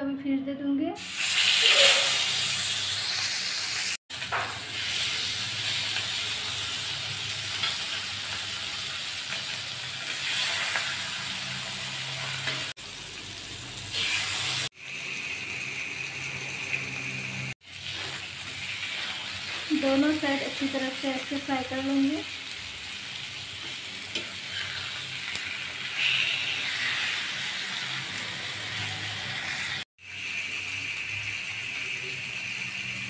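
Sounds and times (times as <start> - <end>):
fish sizzling on hot iron pan: 1.0 - 33.0.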